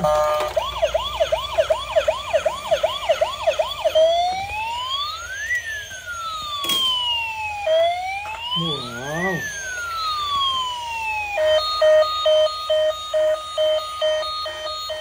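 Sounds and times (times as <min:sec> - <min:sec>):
toy electronic siren: 0:00.0 - 0:15.0.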